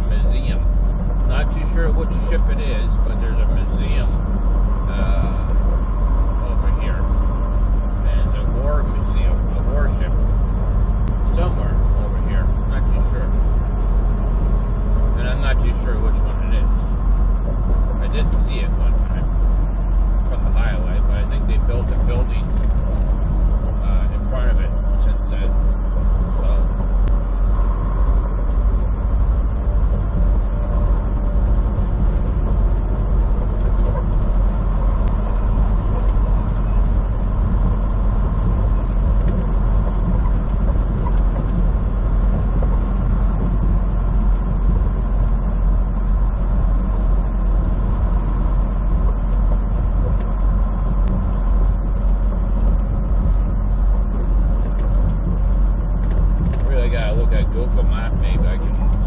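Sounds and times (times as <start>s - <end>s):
road noise: 0.0s - 59.0s
truck diesel engine droning: 0.0s - 59.0s.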